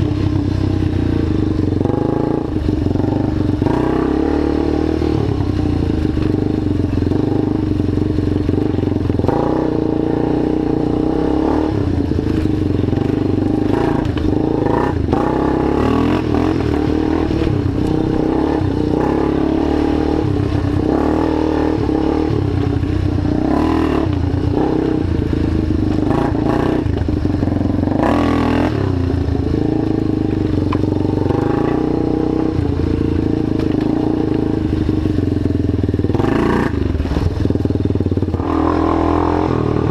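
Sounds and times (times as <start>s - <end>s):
quad bike engine running hard: 0.0s - 39.9s.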